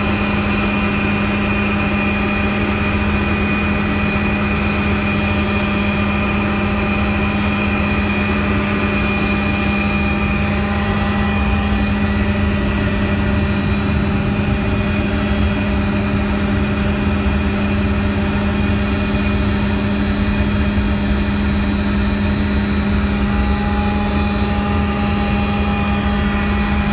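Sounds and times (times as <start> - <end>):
helicopter engine and rotor: 0.0 - 26.9.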